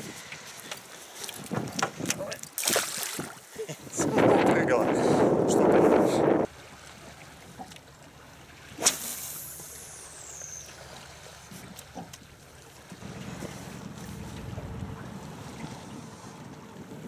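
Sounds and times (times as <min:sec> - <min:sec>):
light water noise: 0:00.0 - 0:04.1, 0:06.4 - 0:17.0
wind: 0:00.0 - 0:17.0.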